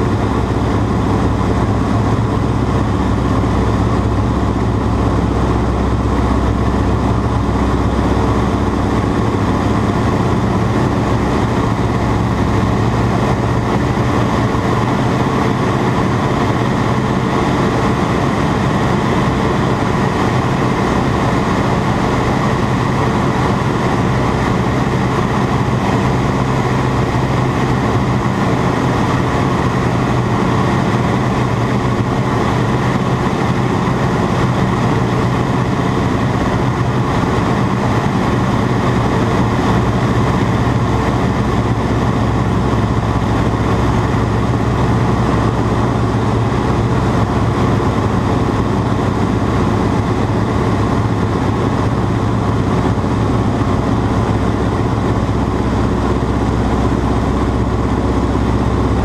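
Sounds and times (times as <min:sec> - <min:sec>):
biplane engine running: 0:00.0 - 0:59.0.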